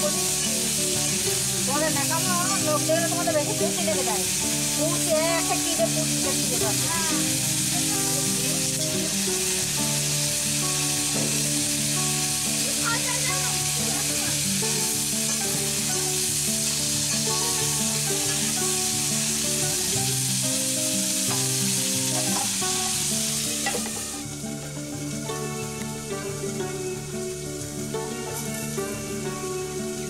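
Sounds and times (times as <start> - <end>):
light background music: 0.0 - 30.0
potatoes sizzling in oil: 0.0 - 30.0.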